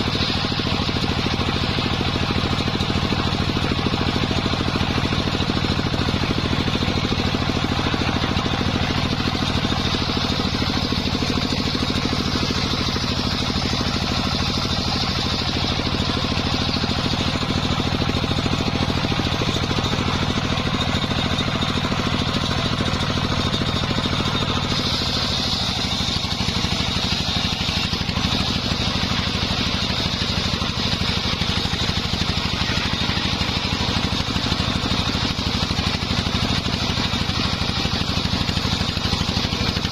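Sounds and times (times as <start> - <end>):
circular saw whine: 0.0 - 39.9
low engine note: 0.0 - 39.9.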